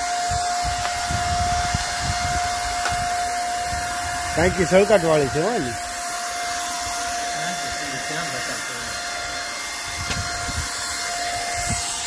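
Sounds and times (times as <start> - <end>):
constant whining tone: 0.0 - 12.0
paint spray gun hissing: 0.0 - 12.0.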